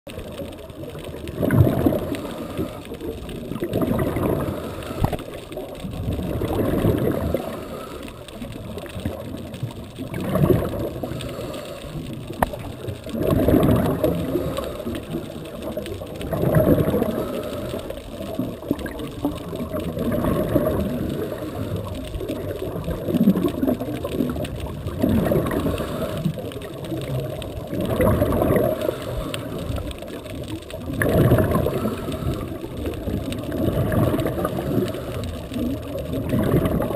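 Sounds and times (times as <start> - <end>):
underwater bubbles gurgling: 0.1 - 36.9.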